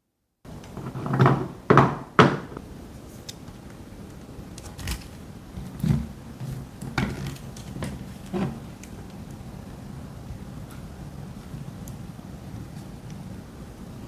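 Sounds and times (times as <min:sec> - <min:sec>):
steady hiss: 0:02.5 - 0:14.0.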